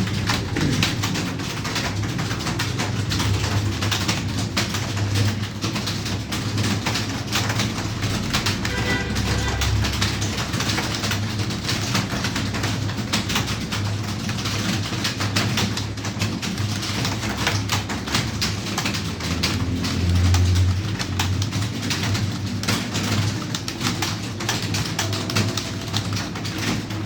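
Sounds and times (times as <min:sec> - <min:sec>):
keyboard typing: 0:00.0 - 0:27.0.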